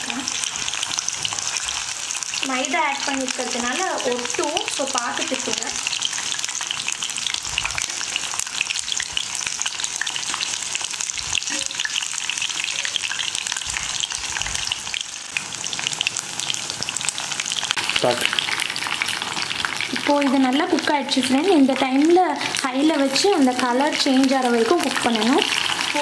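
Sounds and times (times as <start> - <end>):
chicken deep-frying in oil: 0.0 - 26.0.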